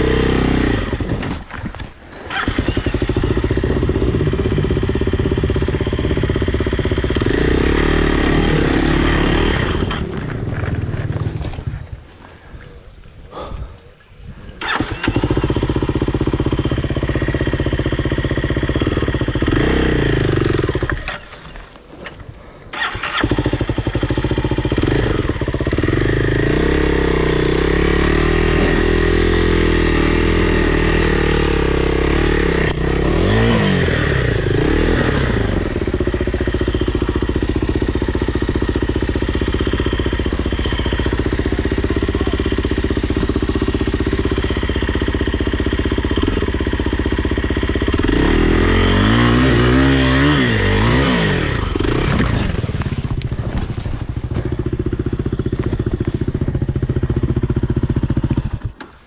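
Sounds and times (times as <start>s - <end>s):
dirt bike engine revving: 0.0s - 1.5s, 2.1s - 11.9s, 14.6s - 59.0s.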